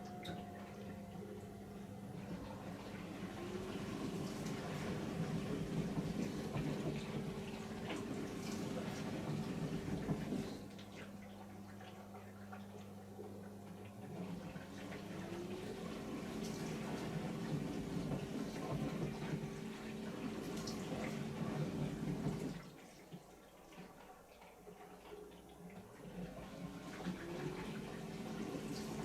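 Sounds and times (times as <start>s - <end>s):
dishwasher pump humming: 0.0s - 29.0s.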